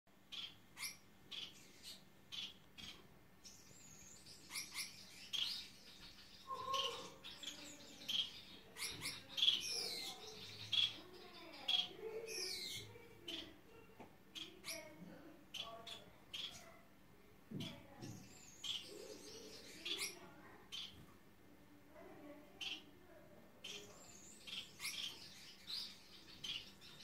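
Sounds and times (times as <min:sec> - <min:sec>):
finches chirping: 0:00.3 - 0:13.7, 0:14.3 - 0:16.9, 0:17.5 - 0:21.0, 0:22.5 - 0:22.9, 0:23.6 - 0:27.0.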